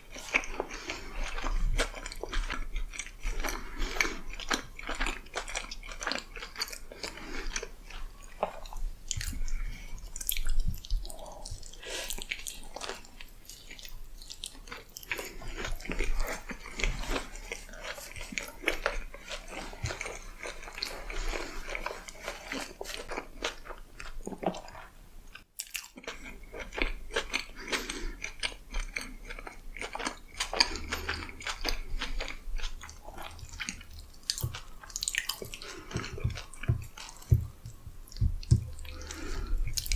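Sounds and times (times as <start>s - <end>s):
person chewing crisp food: 0.0s - 39.9s.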